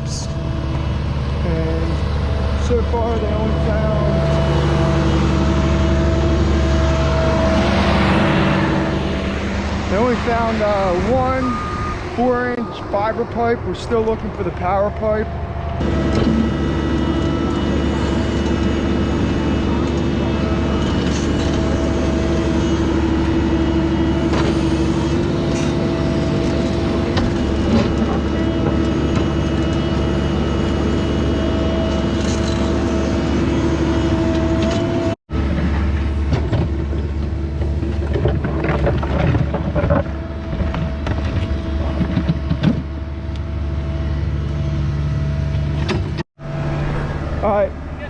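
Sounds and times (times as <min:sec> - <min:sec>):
excavator engine running: 0:00.0 - 0:48.0.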